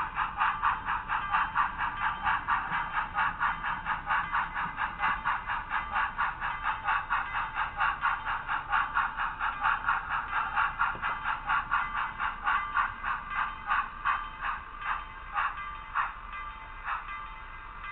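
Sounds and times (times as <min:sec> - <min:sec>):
model steam locomotive running: 0:00.0 - 0:17.9.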